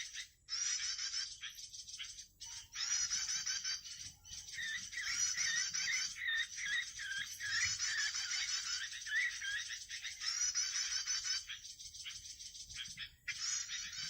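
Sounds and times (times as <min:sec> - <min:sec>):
songbird chattering trills: 0:00.0 - 0:14.0.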